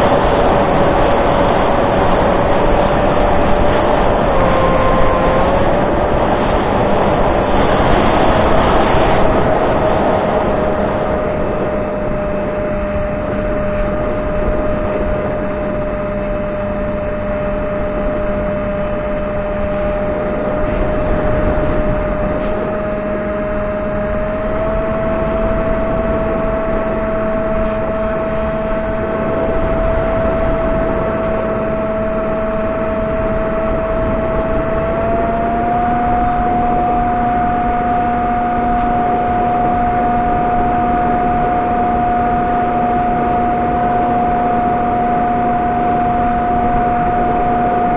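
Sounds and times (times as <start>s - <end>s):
airflow rushing over camera: 0.0s - 47.9s
electric motor and propeller whine: 0.0s - 47.9s.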